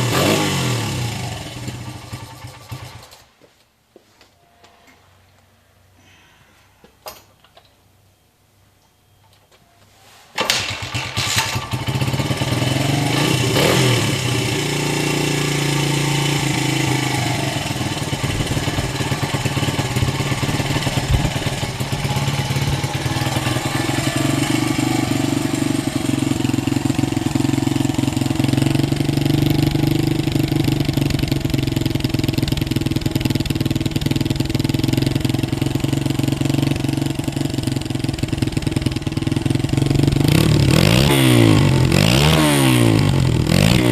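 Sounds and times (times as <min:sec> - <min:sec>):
small motorcycle engine running: 0:00.0 - 0:03.2, 0:10.4 - 0:43.9.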